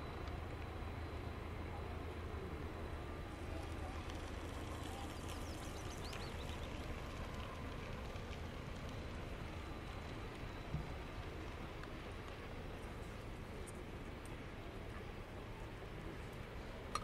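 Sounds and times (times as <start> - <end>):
diesel locomotive engine drone: 0.0 - 17.0
wagons rolling on track: 3.2 - 17.0.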